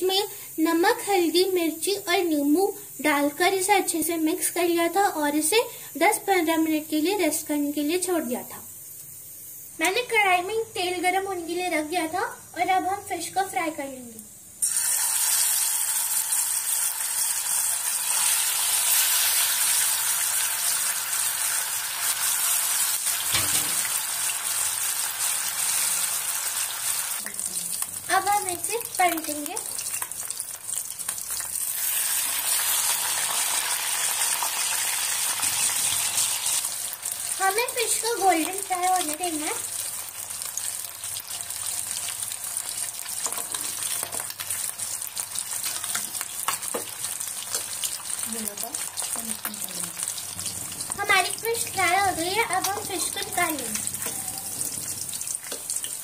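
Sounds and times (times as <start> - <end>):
fish frying in hot oil: 0.0 - 56.0.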